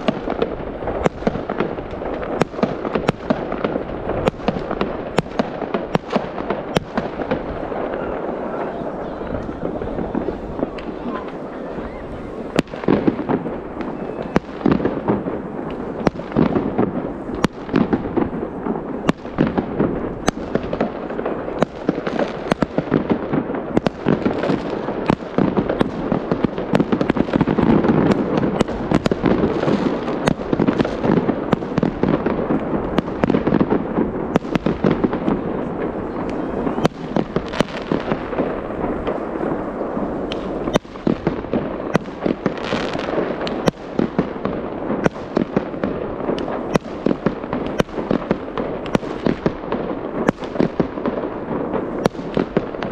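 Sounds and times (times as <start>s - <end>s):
fireworks bangs and crackles: 0.0s - 52.9s.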